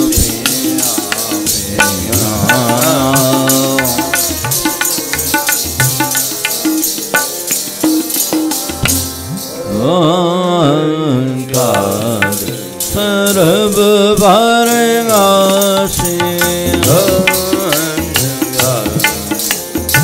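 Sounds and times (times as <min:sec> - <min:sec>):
tabla beat: 0:00.0 - 0:09.6, 0:11.5 - 0:20.0
harmoniums holding chords: 0:00.0 - 0:20.0
man singing: 0:00.0 - 0:20.0.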